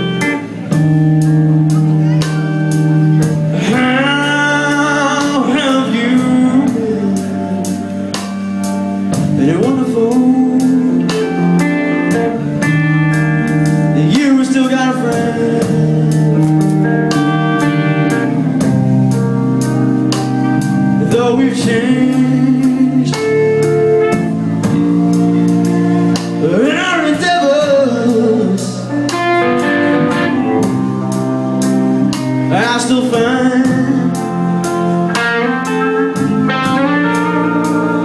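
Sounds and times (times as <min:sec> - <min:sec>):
electric guitar playing blues-rock: 0:00.0 - 0:38.0
steady drum beat: 0:00.0 - 0:38.0.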